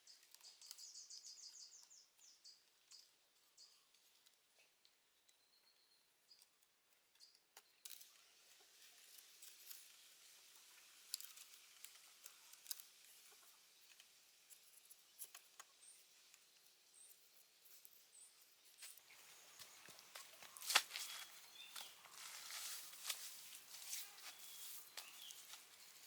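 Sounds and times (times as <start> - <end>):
faint clicks and rustles: 0.0 - 26.0.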